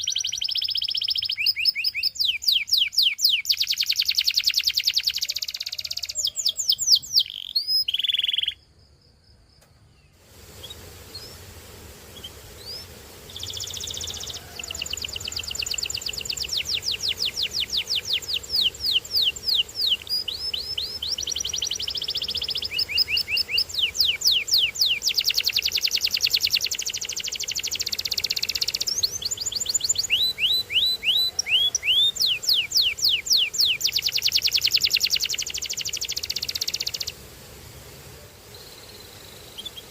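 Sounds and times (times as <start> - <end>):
canary singing: 0.0 - 8.6, 12.1 - 37.2, 38.6 - 39.9.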